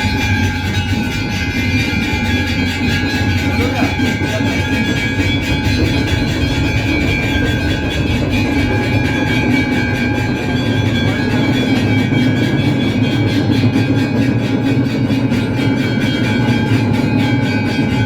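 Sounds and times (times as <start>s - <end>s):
drums beating: 0.0s - 18.0s
temple bells ringing: 0.0s - 18.0s.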